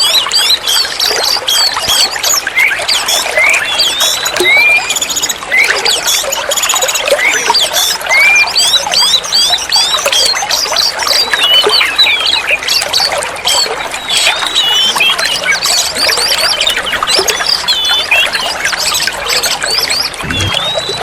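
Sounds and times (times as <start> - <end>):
bird singing whistles and chirps: 0.0 - 21.0.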